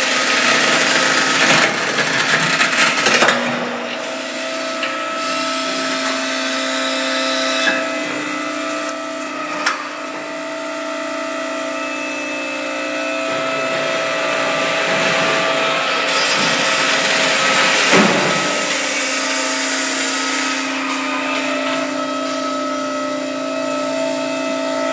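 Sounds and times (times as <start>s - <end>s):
motor whining hum: 3.7s - 24.9s.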